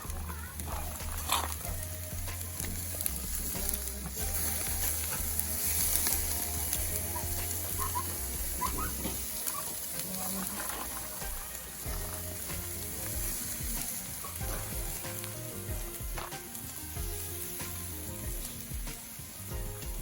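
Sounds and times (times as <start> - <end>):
background music: 0.0 - 20.0
meat sizzling on grill: 0.0 - 20.0.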